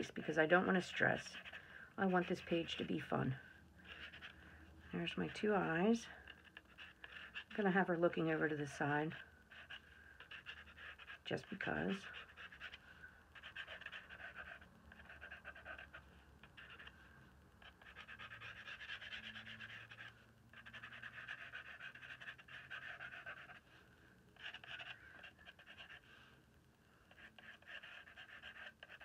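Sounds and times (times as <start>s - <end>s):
pencil scratching on paper: 0.0s - 4.4s, 5.0s - 23.8s, 24.4s - 26.3s, 27.0s - 29.0s.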